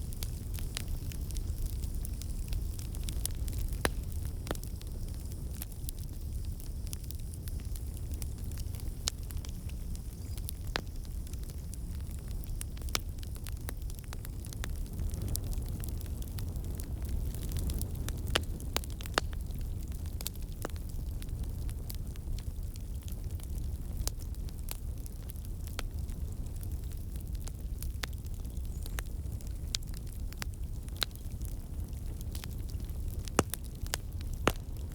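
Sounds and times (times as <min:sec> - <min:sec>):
fire crackling and popping: 0:00.0 - 0:34.9
fire flames rumbling: 0:00.0 - 0:34.9.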